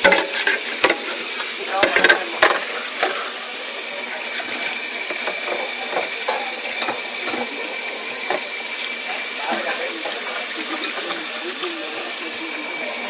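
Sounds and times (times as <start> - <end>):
dishes clinking: 0.0 - 3.4, 4.0 - 12.1
tap water running into sink: 0.0 - 13.0.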